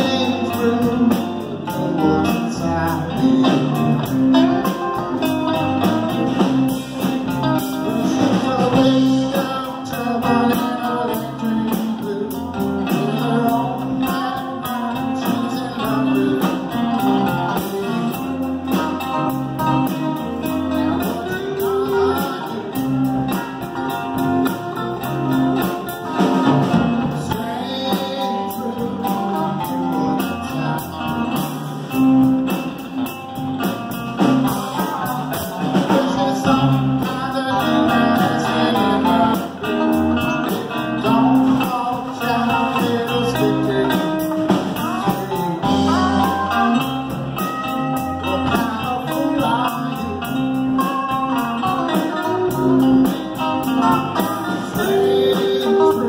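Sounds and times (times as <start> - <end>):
live band with guitars and bass: 0.0 - 56.0.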